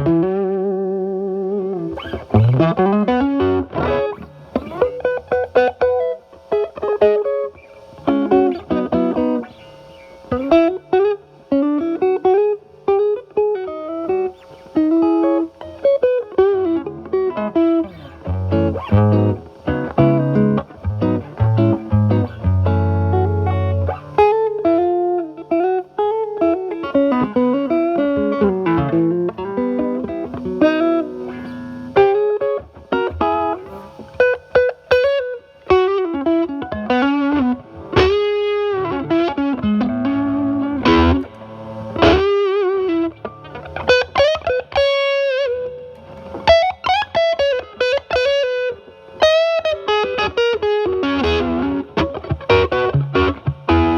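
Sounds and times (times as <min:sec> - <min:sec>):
overdriven electric guitar: 0:00.0 - 0:53.9.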